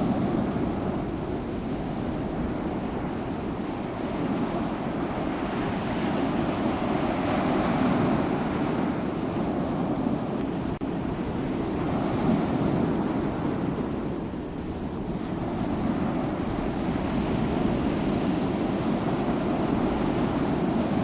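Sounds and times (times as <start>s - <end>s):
sea waves washing: 0.0s - 21.0s
wind on microphone: 0.0s - 21.0s.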